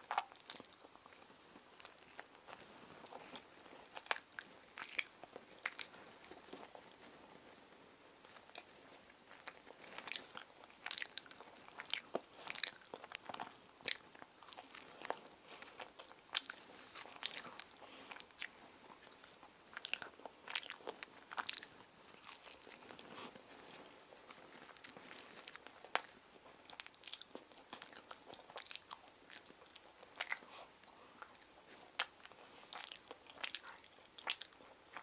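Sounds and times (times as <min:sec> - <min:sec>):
child chewing: 0:00.0 - 0:35.0.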